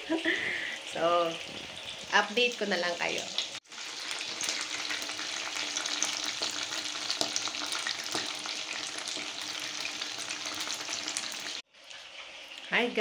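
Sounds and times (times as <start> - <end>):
chicken skin sizzling in oil: 0.0 - 13.0.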